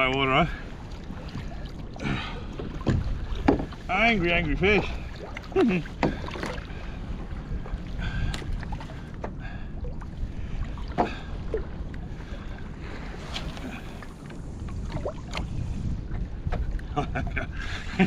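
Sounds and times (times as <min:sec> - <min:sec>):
water lapping against kayak hull: 0:00.0 - 0:18.0
wind rumbling on microphone: 0:00.0 - 0:18.0.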